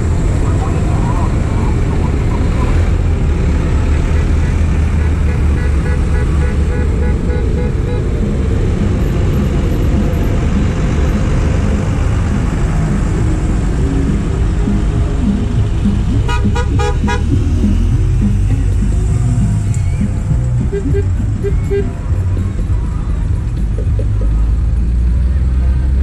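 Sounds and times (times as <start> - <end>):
tractors driving past: 0.0 - 26.0.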